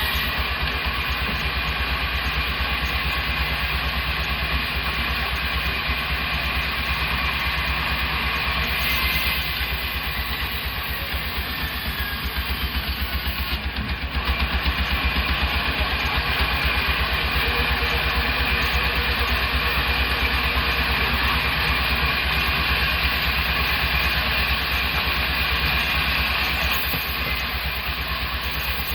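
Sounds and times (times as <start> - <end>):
sawmill machinery droning: 0.0 - 28.9.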